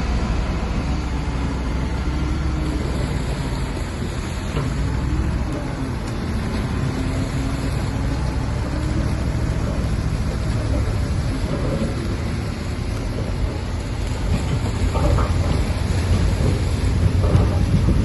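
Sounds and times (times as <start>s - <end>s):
diesel engine rumble: 0.0s - 18.0s.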